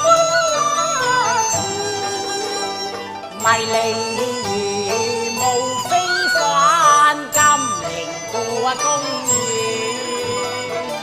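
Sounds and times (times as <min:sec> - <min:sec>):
plucked strings: 0:00.0 - 0:11.0
sustained melody lines: 0:00.0 - 0:11.0.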